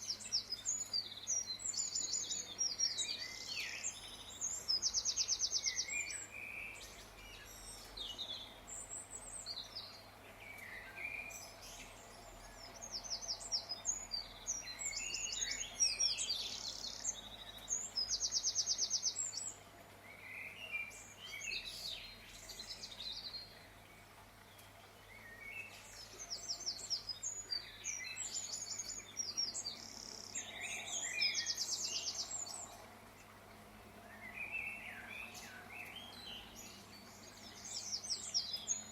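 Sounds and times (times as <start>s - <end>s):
birds chirping and singing: 0.0s - 32.9s, 34.0s - 38.9s.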